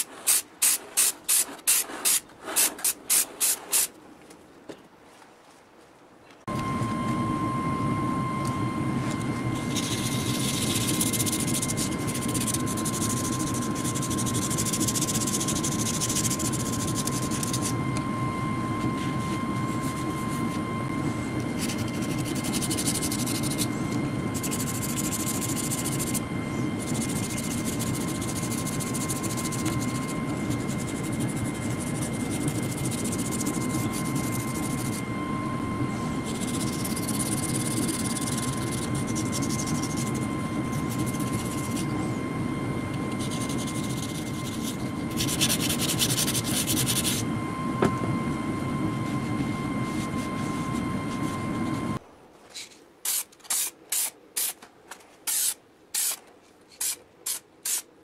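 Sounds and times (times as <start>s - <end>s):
machine drone with high whine: 6.5s - 54.2s.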